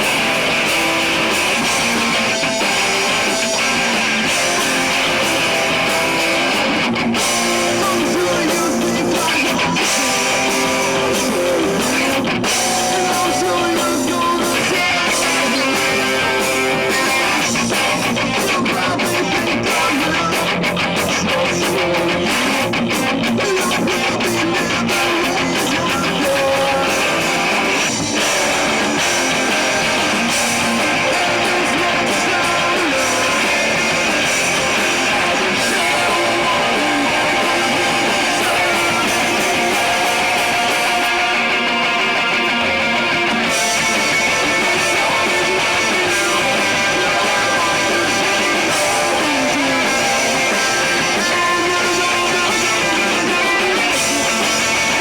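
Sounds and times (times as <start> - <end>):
fast rhythmic drum hits: 0.0 - 42.4, 43.0 - 55.0
live rock band playing: 0.0 - 55.0
loud guitars: 0.0 - 55.0.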